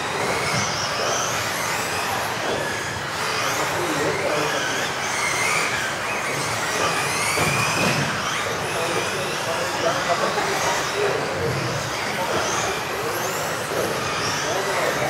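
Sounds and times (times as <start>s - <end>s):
background hubbub: 0.0s - 15.0s
electric toy car motors whining: 0.0s - 15.0s.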